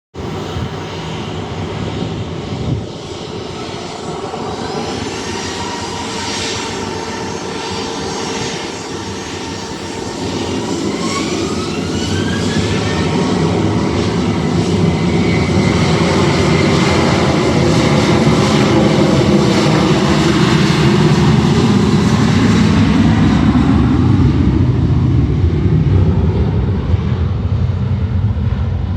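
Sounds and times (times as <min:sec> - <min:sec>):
jet engines rumbling: 0:00.2 - 0:28.9
rising engine whine: 0:00.2 - 0:28.9.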